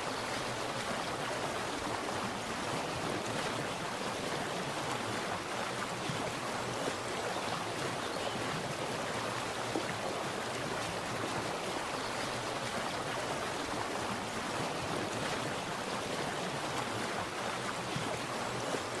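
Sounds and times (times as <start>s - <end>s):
water splashing and running: 0.0s - 19.0s.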